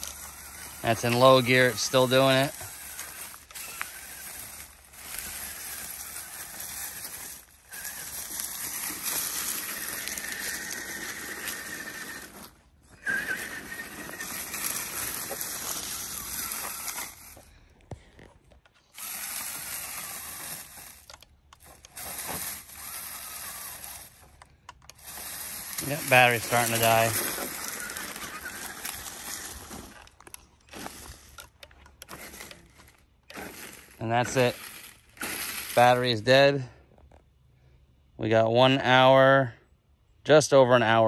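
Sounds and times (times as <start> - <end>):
electric motor and gears whirring: 0.0 - 37.2.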